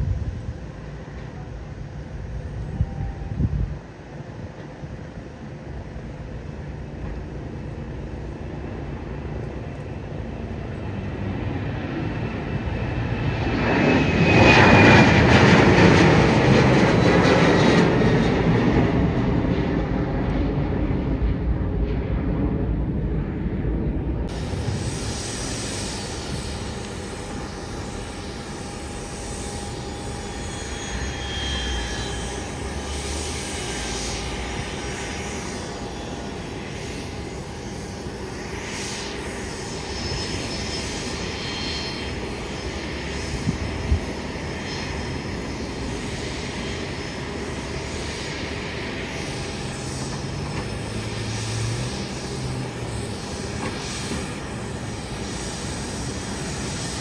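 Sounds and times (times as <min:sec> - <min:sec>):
jet engines roaring: 0:00.0 - 0:57.0
turbine whine: 0:00.0 - 0:57.0.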